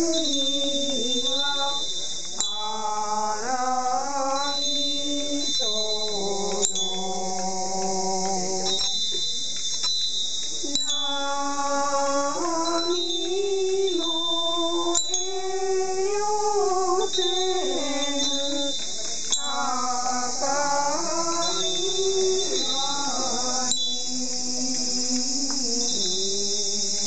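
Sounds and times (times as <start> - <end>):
hymn chanting: 0.0 - 9.6, 10.4 - 27.0.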